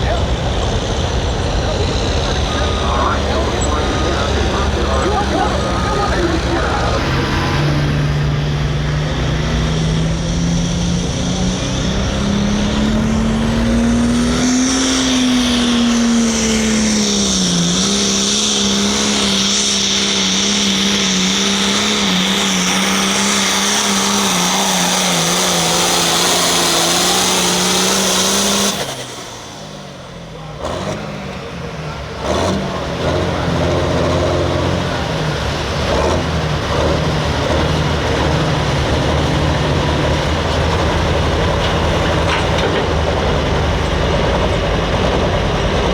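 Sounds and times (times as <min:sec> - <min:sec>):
diesel tractor engine at full throttle: 0:00.0 - 0:45.9.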